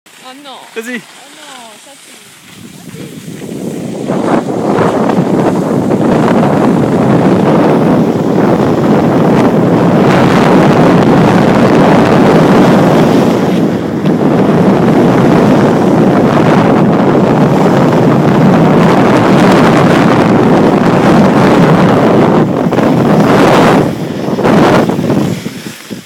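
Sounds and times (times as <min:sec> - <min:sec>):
skis scraping over snow: 0:00.1 - 0:26.0
wind buffeting microphone: 0:00.1 - 0:26.0.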